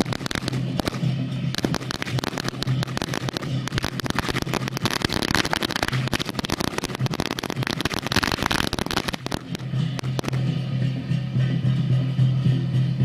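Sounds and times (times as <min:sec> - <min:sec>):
firecrackers crackling: 0:00.0 - 0:10.6.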